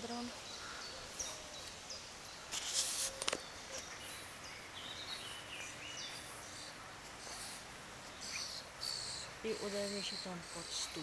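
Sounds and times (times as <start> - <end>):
small birds chirping: 0.0 - 11.0
steady outdoor hum: 0.0 - 11.0.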